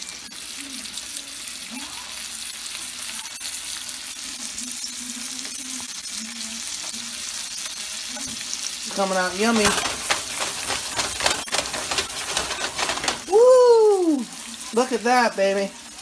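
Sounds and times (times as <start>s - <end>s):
fish sizzling in a pan: 0.0s - 16.0s.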